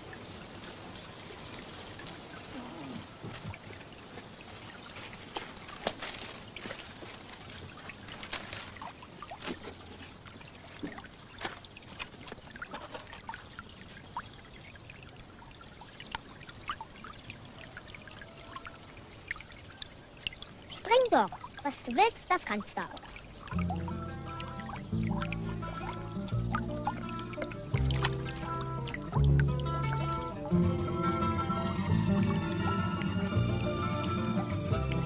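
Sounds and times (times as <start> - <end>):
small water splashes and plops: 0.0 - 31.0
stream trickling and babbling: 0.0 - 35.0.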